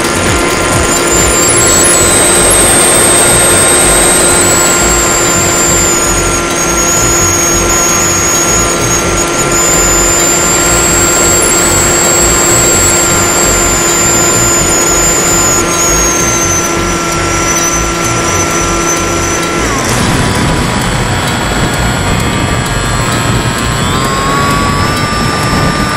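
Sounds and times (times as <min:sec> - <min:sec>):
electric motor and propeller whine: 0:00.0 - 0:25.9
wind rushing on microphone: 0:00.0 - 0:25.9.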